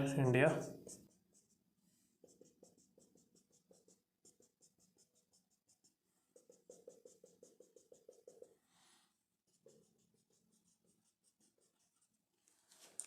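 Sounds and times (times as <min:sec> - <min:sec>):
marker drawing on whiteboard: 0:00.0 - 0:13.0.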